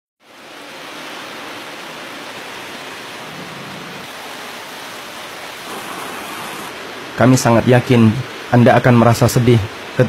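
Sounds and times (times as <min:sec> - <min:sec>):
rain falling on wet ground: 0:00.2 - 0:10.0.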